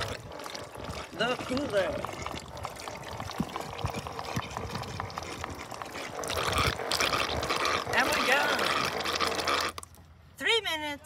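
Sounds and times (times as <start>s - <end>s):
water pouring from a hose: 0.0s - 9.9s.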